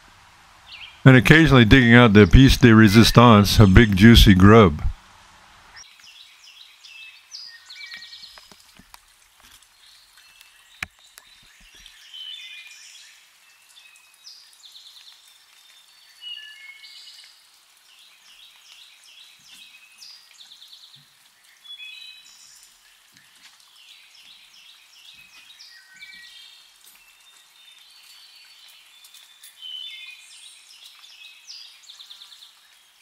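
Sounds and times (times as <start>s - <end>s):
songbirds singing: 0.6s - 1.0s, 5.8s - 8.6s, 9.6s - 33.0s.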